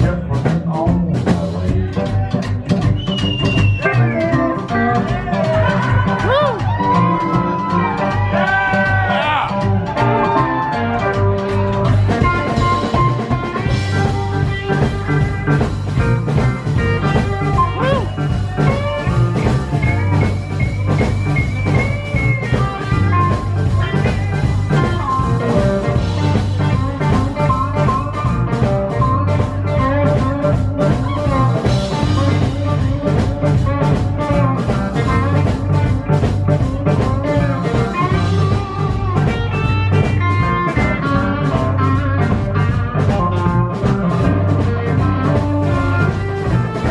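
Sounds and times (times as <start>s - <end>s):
drum kit: 0.0s - 46.9s
electric guitar: 0.0s - 46.9s
pedal steel guitar: 0.0s - 46.9s
upright bass: 0.0s - 46.9s.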